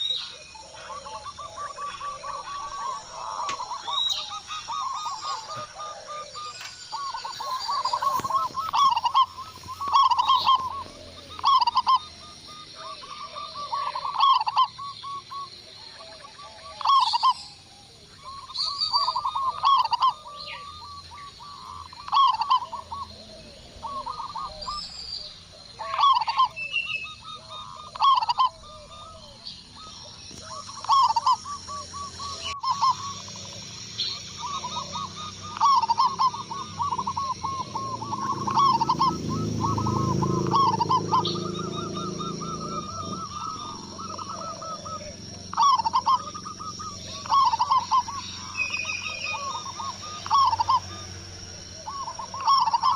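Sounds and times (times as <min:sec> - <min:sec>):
doves cooing: 0:00.0 - 0:52.9
small birds chirping: 0:00.0 - 0:52.9.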